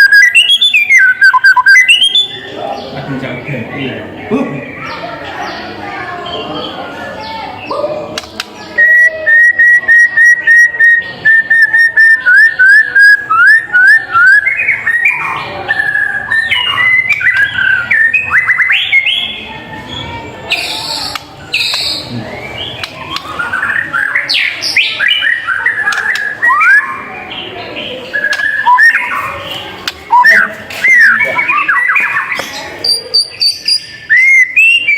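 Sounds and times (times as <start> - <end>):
bird singing whistled notes: 0.0 - 2.8, 8.7 - 19.4, 20.5 - 34.9.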